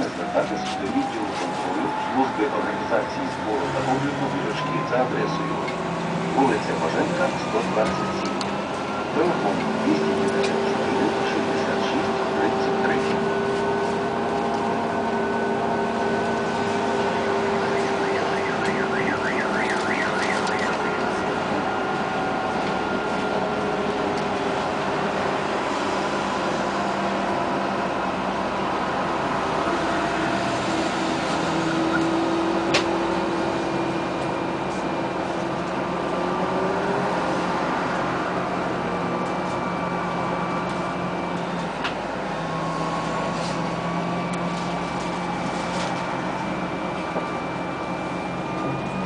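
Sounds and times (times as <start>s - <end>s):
tyre and road noise: 0.0s - 49.0s.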